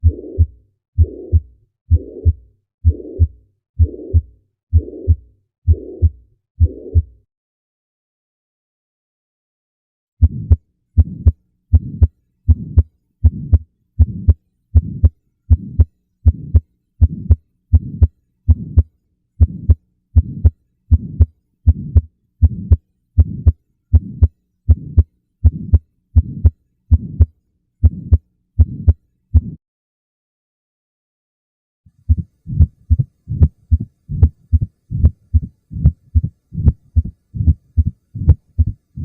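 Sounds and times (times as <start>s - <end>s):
human heartbeat: 0.0s - 7.2s, 10.2s - 29.6s, 32.0s - 39.0s.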